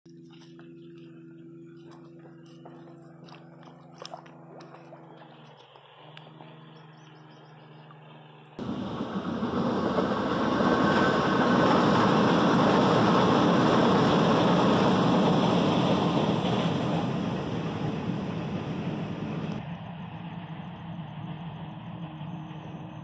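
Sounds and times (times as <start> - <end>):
vehicle passing: 1.0 - 23.0.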